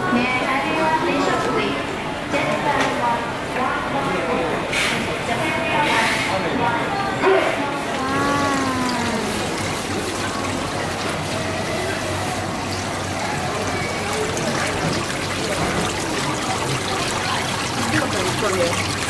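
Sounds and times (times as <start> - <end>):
water trickling into tanks: 0.1 - 19.0.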